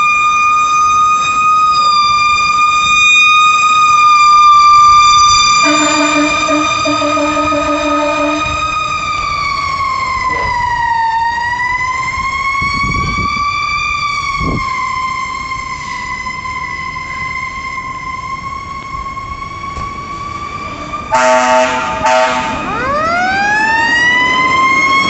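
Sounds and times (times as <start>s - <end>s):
mechanical siren wailing: 0.0s - 25.0s
low truck rumble: 3.6s - 25.0s.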